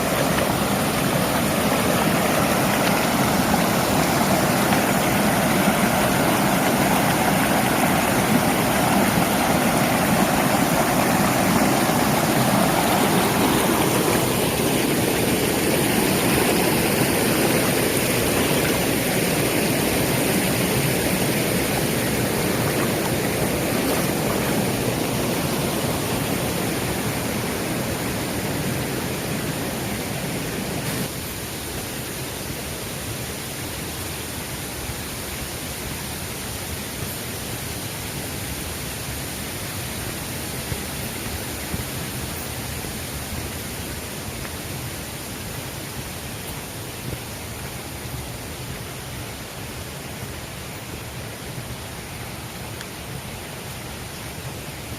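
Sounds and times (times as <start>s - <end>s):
stream rushing: 0.0s - 54.9s.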